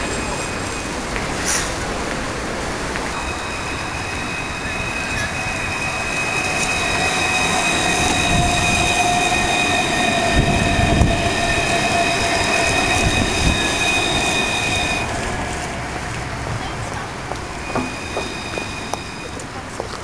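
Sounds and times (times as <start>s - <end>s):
tram rumbling on rails: 0.0s - 20.0s
high whine: 2.9s - 19.8s.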